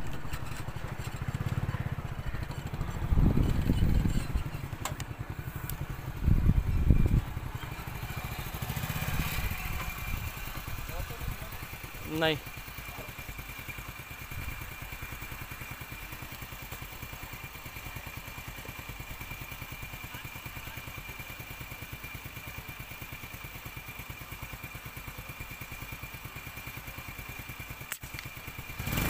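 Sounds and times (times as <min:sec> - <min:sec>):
small motorcycle engine idling: 0:00.0 - 0:29.0.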